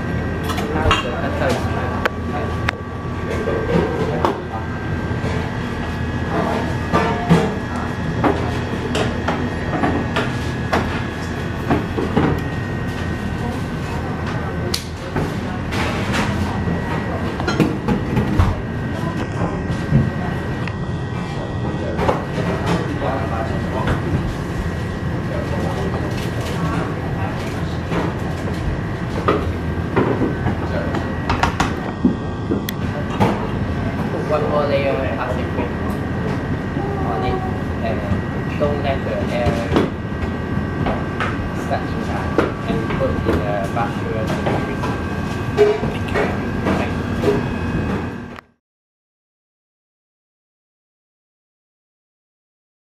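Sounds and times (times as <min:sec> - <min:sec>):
steady background hum: 0:00.0 - 0:48.4.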